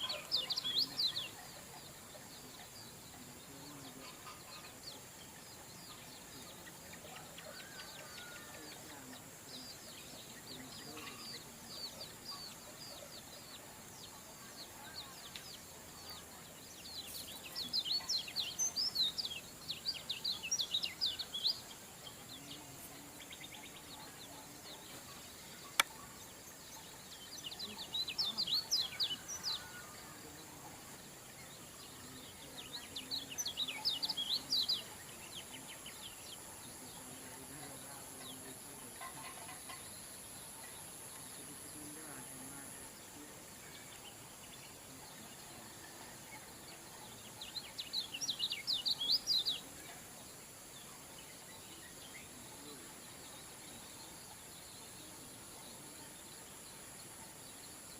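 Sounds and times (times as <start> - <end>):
faint high-pitched whine: 0.0 - 57.9
songbird twittering: 0.0 - 57.9.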